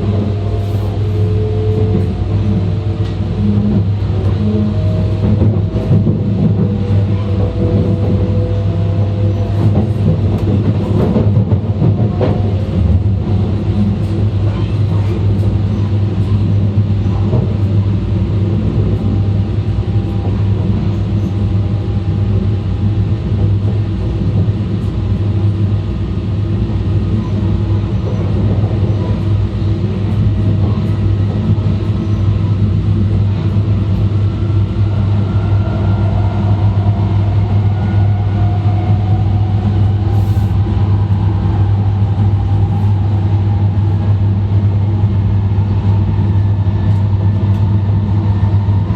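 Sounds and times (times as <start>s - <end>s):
train wheels rumbling on track: 0.0s - 48.9s.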